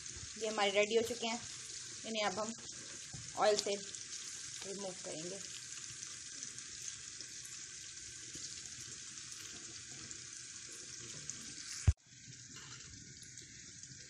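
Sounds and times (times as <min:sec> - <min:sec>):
faint hiss: 0:00.0 - 0:14.0
food sizzling in hot oil: 0:00.0 - 0:14.0.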